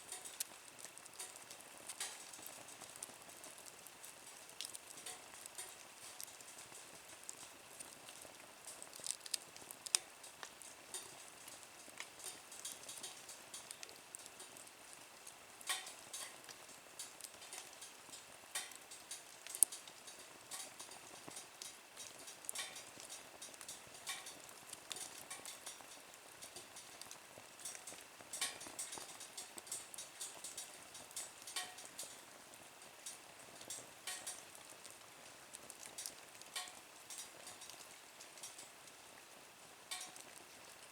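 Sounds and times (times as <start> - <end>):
faint sizzling hiss: 0.0 - 40.9
wood fire crackling: 0.0 - 40.9.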